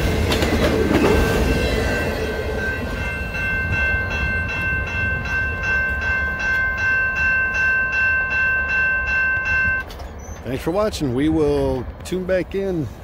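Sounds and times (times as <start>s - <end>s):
railroad crossing bell ringing: 0.0s - 11.8s
freight train rumbling: 0.0s - 13.0s.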